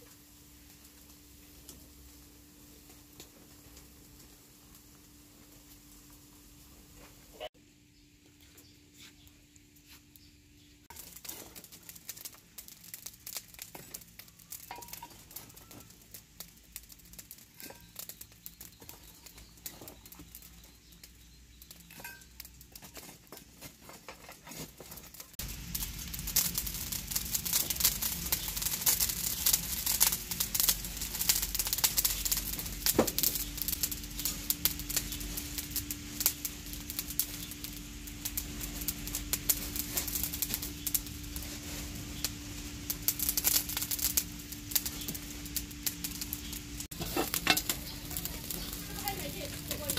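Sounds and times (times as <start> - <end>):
fish sizzling and crackling on grill: 0.0 - 49.9.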